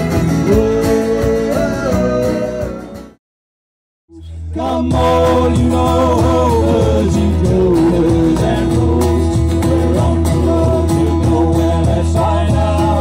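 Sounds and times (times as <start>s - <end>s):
cajon beat: 0.0s - 3.1s, 4.6s - 13.0s
electric bass line: 0.0s - 3.2s, 4.1s - 13.0s
strummed acoustic guitars: 0.0s - 3.2s, 4.1s - 13.0s
person singing: 0.4s - 3.0s, 4.1s - 13.0s.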